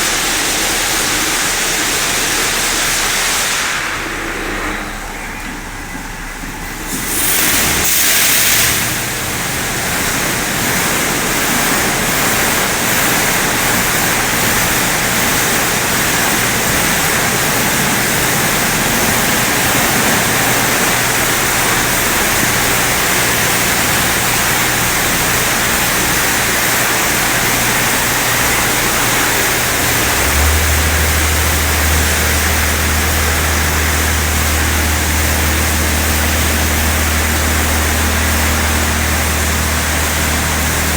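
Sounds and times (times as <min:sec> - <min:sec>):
high-pressure water spray hissing: 0:00.0 - 0:40.9
low machine hum: 0:00.0 - 0:40.9.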